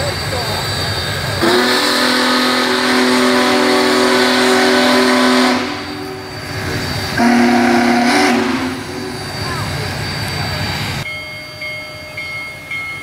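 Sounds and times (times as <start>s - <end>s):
steam locomotive chime whistle: 0.0s - 13.0s.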